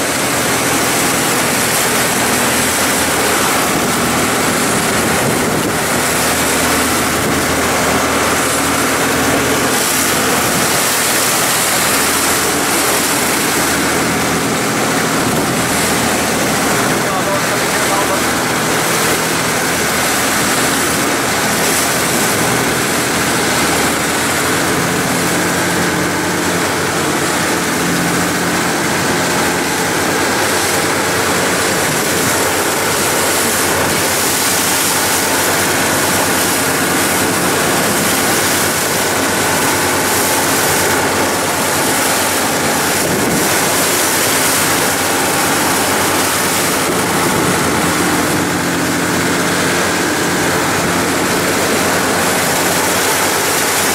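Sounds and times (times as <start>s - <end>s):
boat engine running: 0.0s - 53.9s
rushing water: 0.0s - 53.9s
wind: 0.0s - 53.9s.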